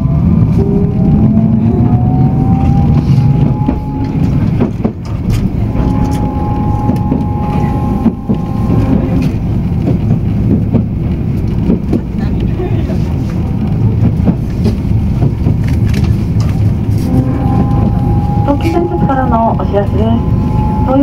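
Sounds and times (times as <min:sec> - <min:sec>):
tram wheels rumbling on rail: 0:00.0 - 0:21.0.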